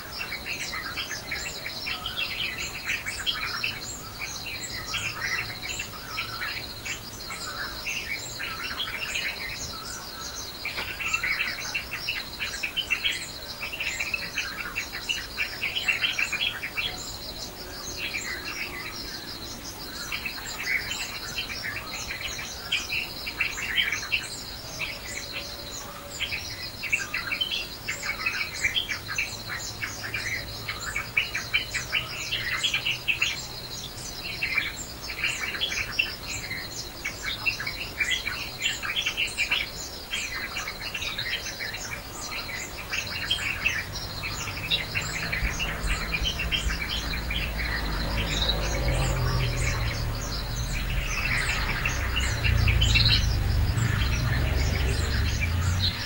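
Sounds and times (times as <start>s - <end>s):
birds chirping and twittering: 0.0s - 56.0s.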